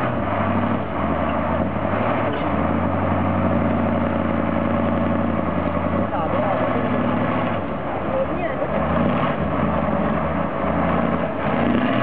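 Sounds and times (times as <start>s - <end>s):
truck engine under load: 0.0s - 12.0s.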